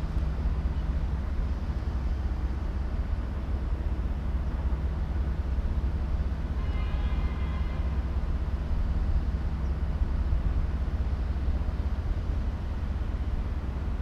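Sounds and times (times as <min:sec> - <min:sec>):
low harbour rumble: 0:00.0 - 0:14.0.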